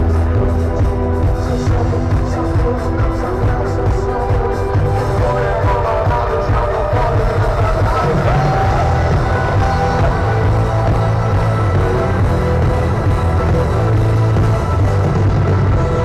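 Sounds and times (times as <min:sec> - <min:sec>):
live band playing worship music: 0:00.0 - 0:16.0.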